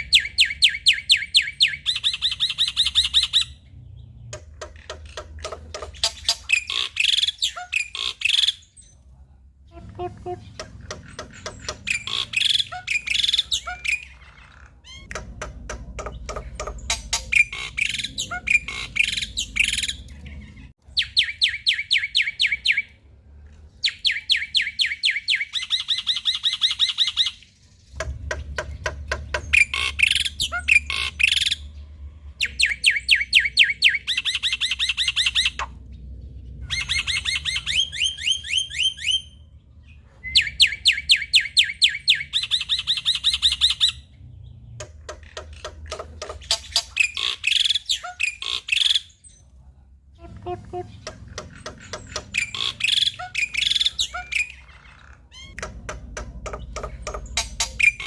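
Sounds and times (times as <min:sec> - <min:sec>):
bird singing varied song: 0:00.0 - 0:49.5, 0:50.1 - 0:58.0.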